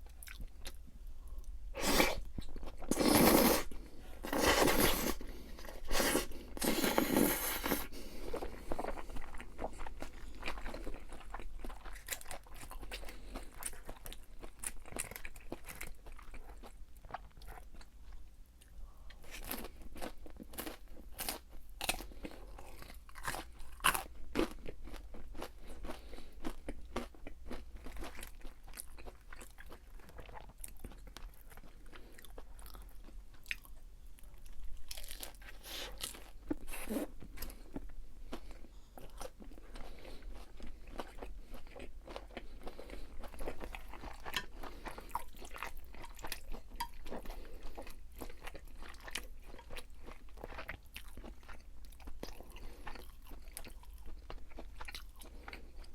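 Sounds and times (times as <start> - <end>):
chewing crunchy fried food: 0.0 - 55.9.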